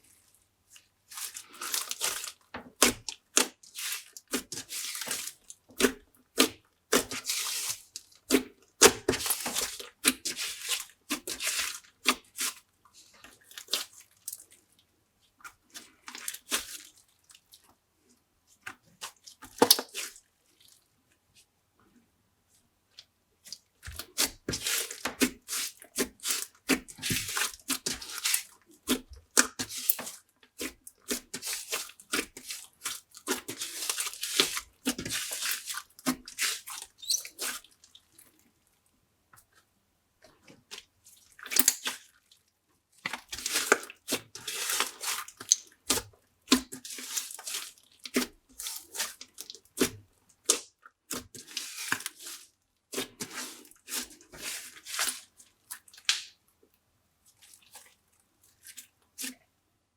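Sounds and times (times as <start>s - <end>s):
slime squelching by hand: 0.2s - 17.7s, 18.5s - 20.8s, 22.9s - 38.7s, 40.4s - 56.4s, 57.2s - 59.4s.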